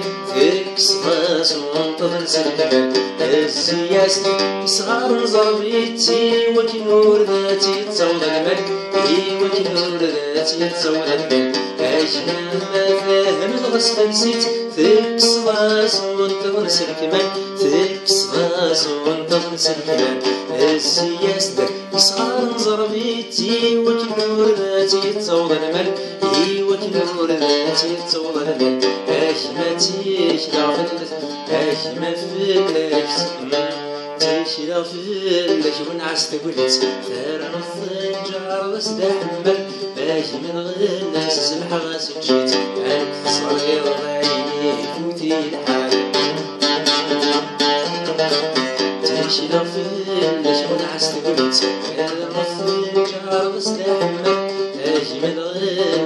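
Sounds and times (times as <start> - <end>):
man singing: 0.0 - 56.0
oud plucked notes: 0.0 - 56.0.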